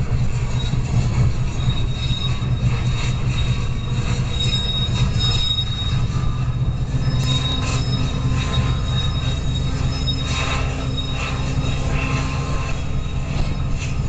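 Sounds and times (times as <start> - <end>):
low train rumble: 0.0 - 14.0
train wheels squealing on rail: 0.0 - 14.0.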